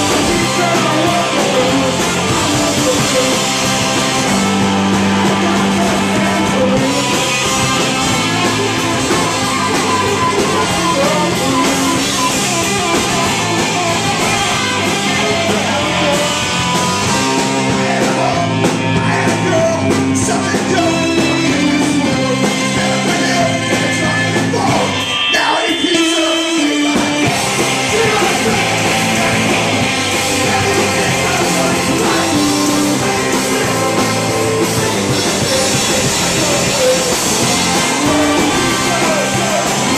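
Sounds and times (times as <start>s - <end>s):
bass guitar: 0.0s - 39.9s
drum kit: 0.0s - 39.9s
electric guitar: 0.0s - 39.9s
person singing lead vocals: 0.0s - 39.9s.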